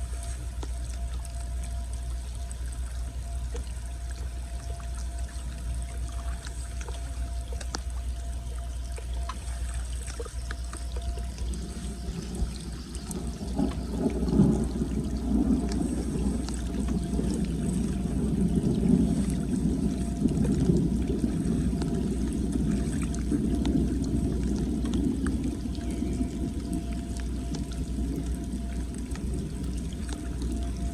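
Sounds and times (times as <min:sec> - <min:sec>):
low rumble: 0:00.0 - 0:30.9
water gurgling down storm drain: 0:00.0 - 0:30.9.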